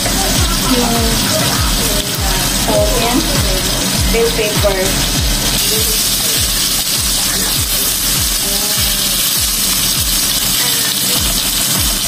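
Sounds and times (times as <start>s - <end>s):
background music with bass beat: 0.0s - 12.0s
chicken frying in oil: 0.0s - 12.0s.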